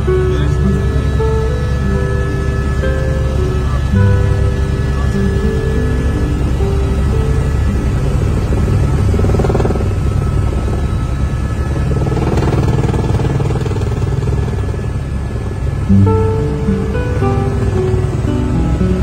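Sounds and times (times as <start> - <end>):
music: 0.0 - 13.7, 14.8 - 19.0
helicopter engine and rotor: 0.0 - 19.0.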